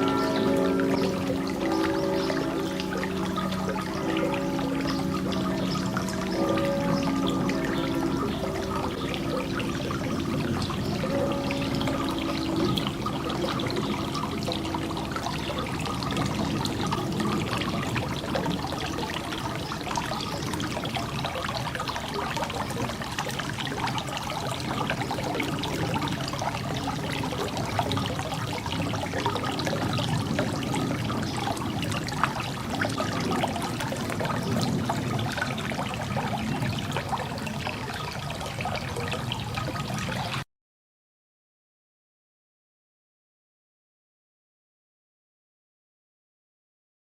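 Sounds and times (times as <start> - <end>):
fountain water splashing: 0.0 - 40.4.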